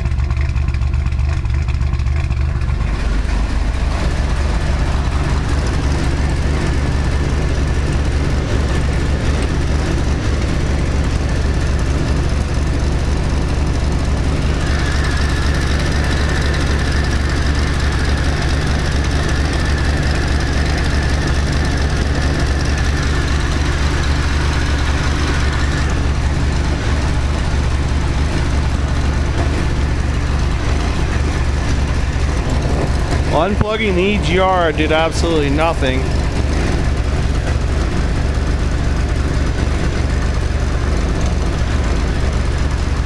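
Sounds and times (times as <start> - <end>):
car engine idling rough: 0.0 - 43.0.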